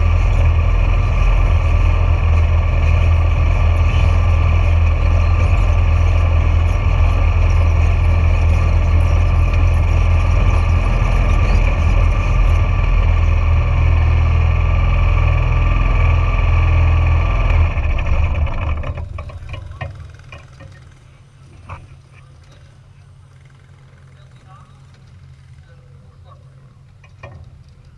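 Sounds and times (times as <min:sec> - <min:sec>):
single-cylinder engine running: 0:00.0 - 0:27.9.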